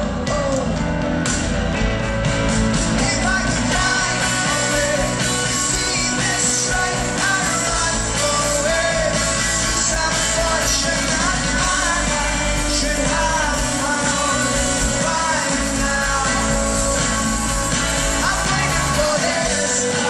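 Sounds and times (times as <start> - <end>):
rock song with singer: 0.0 - 20.0.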